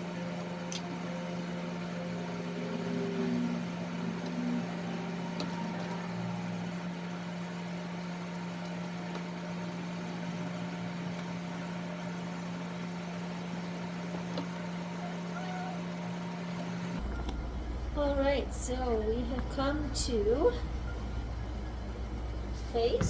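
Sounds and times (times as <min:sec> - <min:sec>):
electric motor hum: 0:00.0 - 0:23.0.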